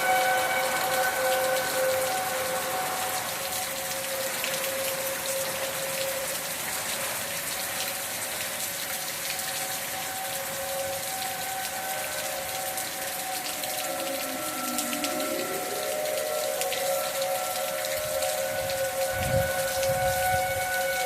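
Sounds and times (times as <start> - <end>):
steady rain: 0.0 - 21.0
tornado warning siren: 0.0 - 21.0.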